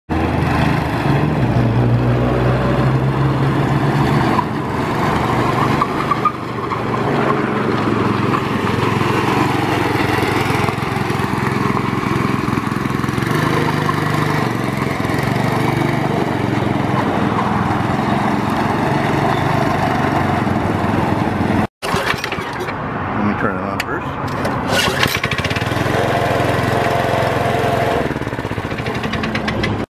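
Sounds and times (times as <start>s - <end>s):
go-kart engine running: 0.1s - 22.8s, 24.2s - 29.9s.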